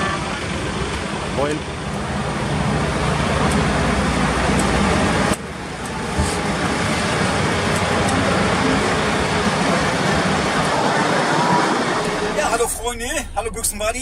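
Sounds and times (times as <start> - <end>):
heavy vehicles running: 0.0 - 14.0.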